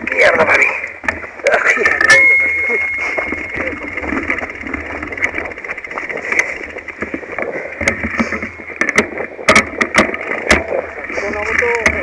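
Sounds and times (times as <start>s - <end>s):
tyre and trail noise: 0.0s - 12.0s.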